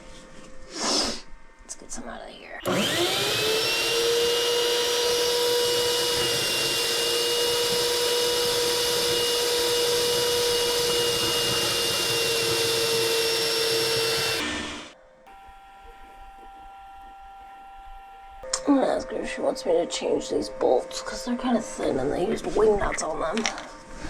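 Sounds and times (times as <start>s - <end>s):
vacuum motor whining: 2.6s - 24.0s.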